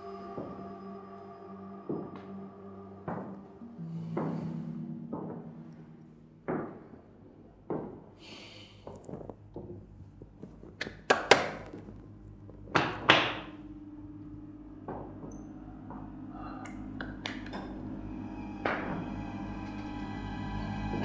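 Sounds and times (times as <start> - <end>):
ominous suspense music drone: 0.0 - 7.9, 11.9 - 21.0.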